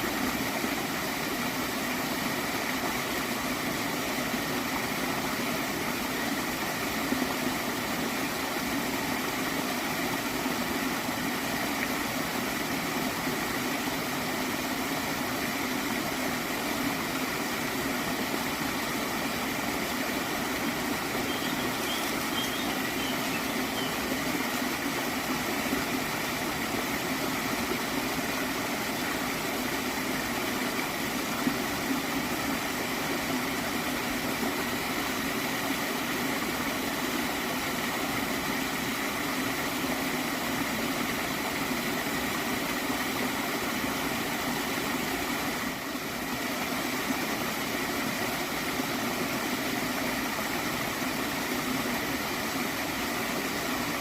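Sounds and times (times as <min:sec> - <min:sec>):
small stream gurgling: 0:00.0 - 0:54.0.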